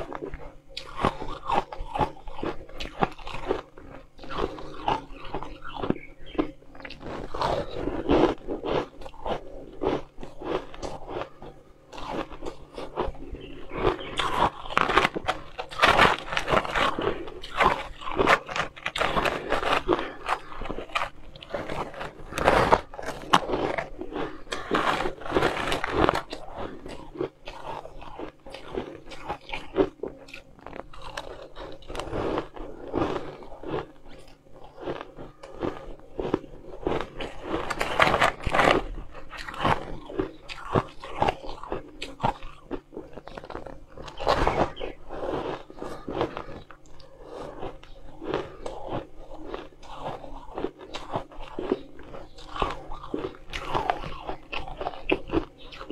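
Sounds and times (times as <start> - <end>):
person crunching shaved ice: 0.0 - 55.9.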